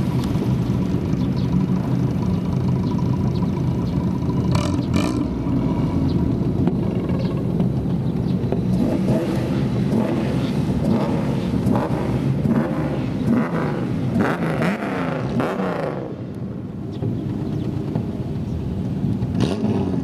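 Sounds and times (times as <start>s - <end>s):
car engines revving with loud exhausts: 0.0s - 20.0s.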